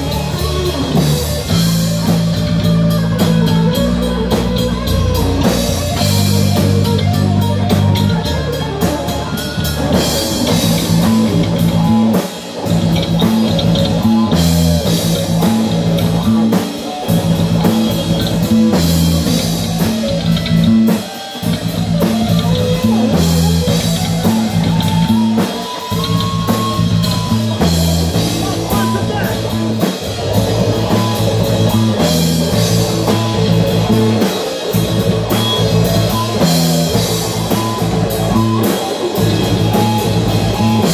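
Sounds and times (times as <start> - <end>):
live heavy metal band: 0.0 - 40.9.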